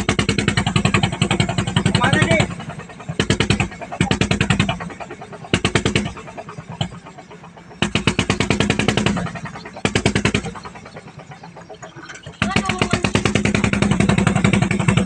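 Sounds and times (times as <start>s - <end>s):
boat diesel engine chugging: 0.0s - 15.0s.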